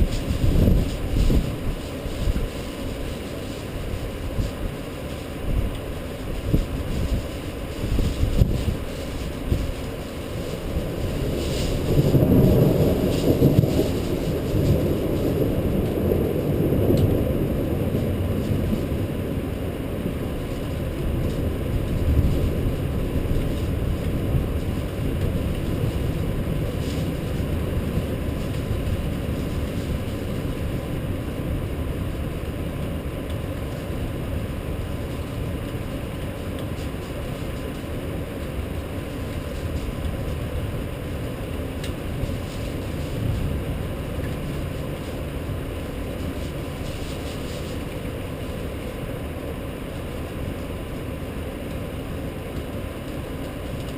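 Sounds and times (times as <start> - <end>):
thunder crackles: 0.0 - 53.9
thunder rumbling: 0.0 - 53.9.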